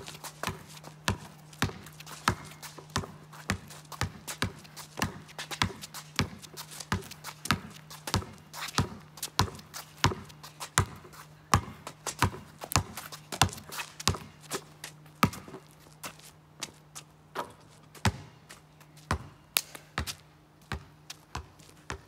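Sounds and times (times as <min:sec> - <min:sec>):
basketball bouncing on concrete: 0:00.0 - 0:14.4, 0:15.0 - 0:15.7, 0:17.4 - 0:18.4, 0:19.0 - 0:19.4, 0:20.0 - 0:22.0
faint low hum: 0:00.0 - 0:22.0.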